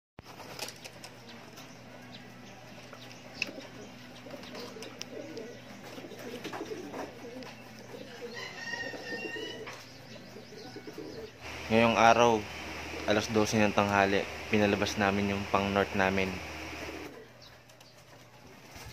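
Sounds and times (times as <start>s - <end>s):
pigeons cooing: 0.3s - 18.9s.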